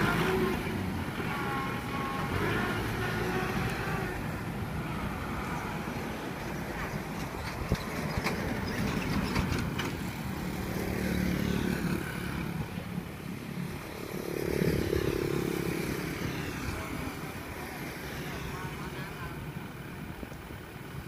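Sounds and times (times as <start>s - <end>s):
motorbikes passing: 0.0s - 21.0s.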